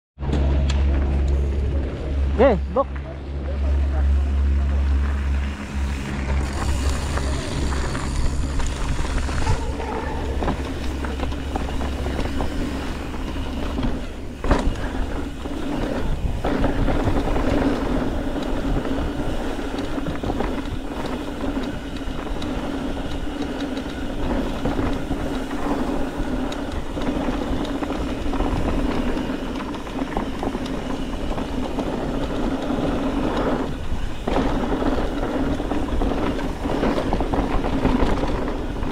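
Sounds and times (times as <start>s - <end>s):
bike rattling and knocking: 0.2s - 38.9s
tyres running on dirt: 0.2s - 38.9s
wind on microphone: 5.4s - 38.9s.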